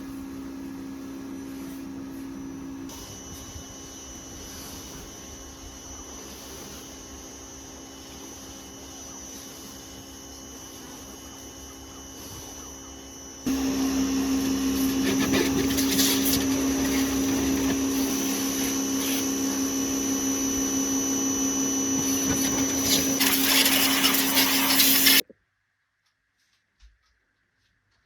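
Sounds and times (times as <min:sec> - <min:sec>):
electric motor humming: 0:01.2 - 0:25.2.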